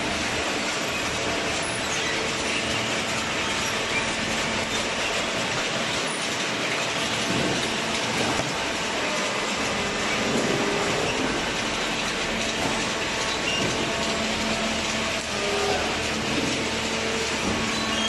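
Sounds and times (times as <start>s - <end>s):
baling press mechanical din: 0.2s - 18.0s.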